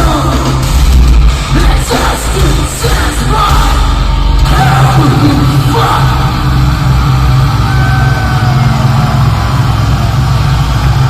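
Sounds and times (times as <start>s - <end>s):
metal band playing live: 0.0s - 11.0s
yelled vocals: 0.0s - 11.0s.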